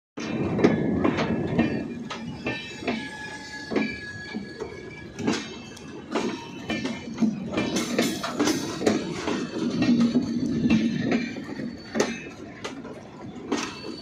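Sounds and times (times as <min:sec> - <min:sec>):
train wheels rumbling on rail: 0:00.2 - 0:14.0
wheels clunking over rail joints: 0:00.2 - 0:14.0.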